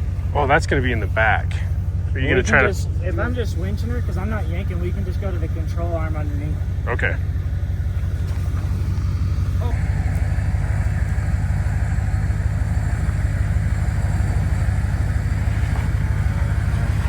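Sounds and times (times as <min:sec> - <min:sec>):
electric winch motor running: 0:00.0 - 0:17.0
truck engine rumbling: 0:00.0 - 0:17.0.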